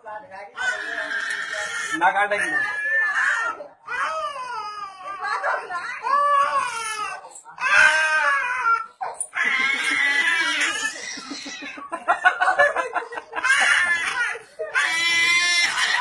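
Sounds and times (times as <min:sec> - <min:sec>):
high-pitched wailing cries: 0:00.6 - 0:11.8, 0:13.4 - 0:16.0.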